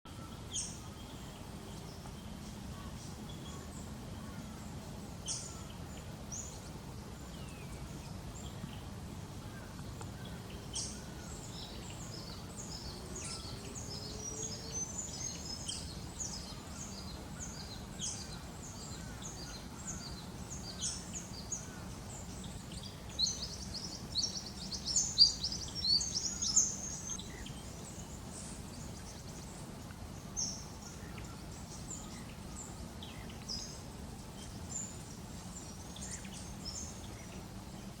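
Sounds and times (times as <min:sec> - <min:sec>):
birds calling with high piping notes: 0:00.1 - 0:38.0
low background hum: 0:00.1 - 0:38.0.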